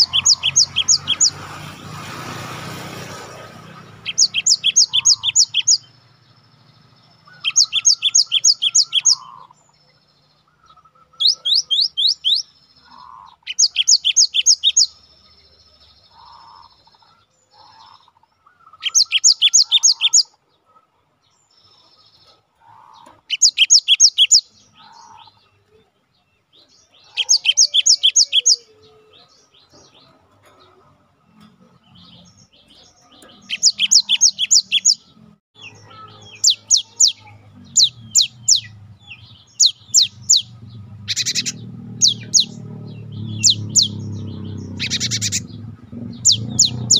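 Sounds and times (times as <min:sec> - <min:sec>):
bird song bursts: 0:00.0 - 0:46.9.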